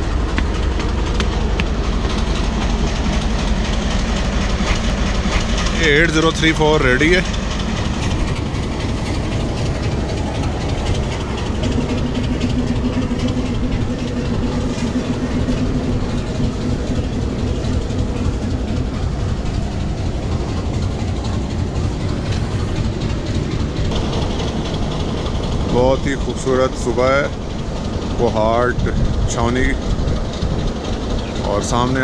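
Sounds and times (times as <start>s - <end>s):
diesel locomotive idling: 0.0s - 32.0s
held hum: 0.0s - 32.0s.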